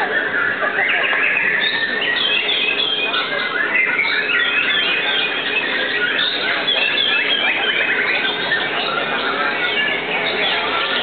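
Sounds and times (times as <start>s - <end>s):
birds singing in chorus: 0.0s - 11.0s.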